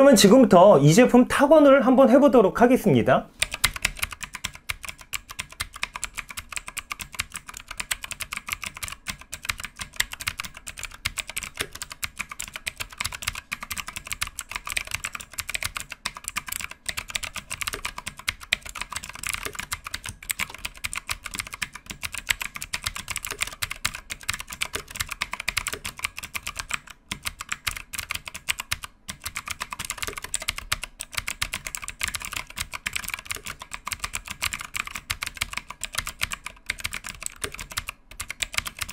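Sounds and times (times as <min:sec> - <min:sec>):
mechanical keyboard typing clicks: 0:03.4 - 0:38.9.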